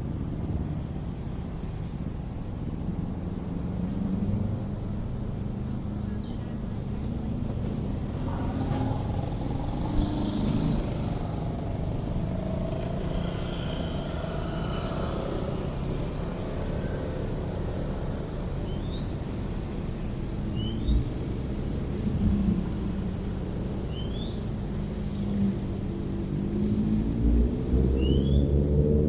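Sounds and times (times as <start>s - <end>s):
road traffic hum: 0.0s - 29.0s.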